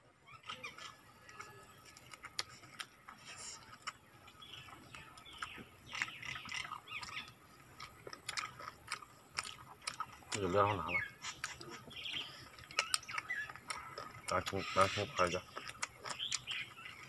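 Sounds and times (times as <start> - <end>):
chewing and mouth clicks: 0.5 - 17.0
small ticks and smacks: 0.8 - 10.6, 11.2 - 14.6, 15.2 - 17.0.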